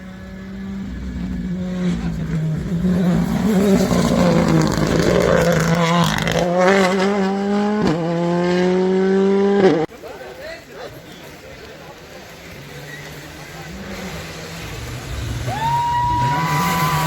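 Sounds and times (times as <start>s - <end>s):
rally car engine accelerating: 0.0s - 9.9s, 12.3s - 17.0s.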